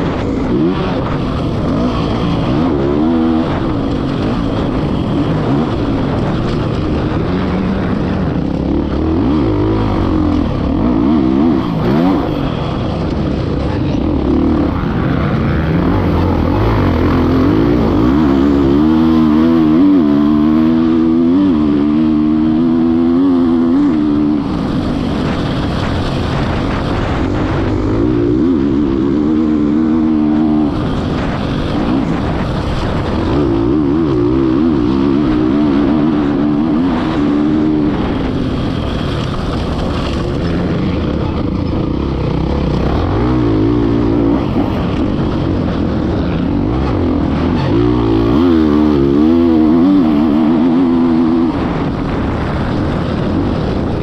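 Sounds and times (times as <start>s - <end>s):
motorcycle engine racing: 0.0s - 54.0s.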